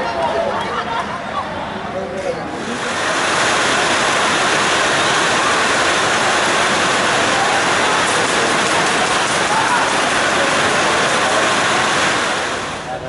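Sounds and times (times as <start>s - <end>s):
heavy rain falling: 2.5s - 13.0s.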